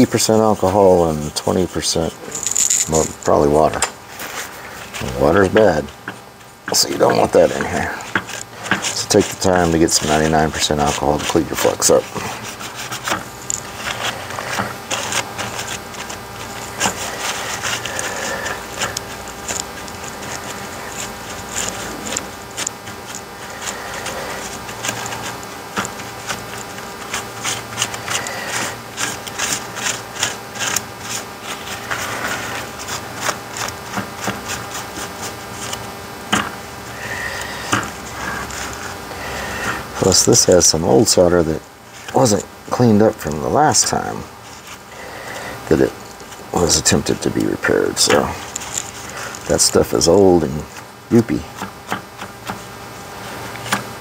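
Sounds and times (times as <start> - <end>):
paper towel scrubbing circuit board: 0.0 - 54.0.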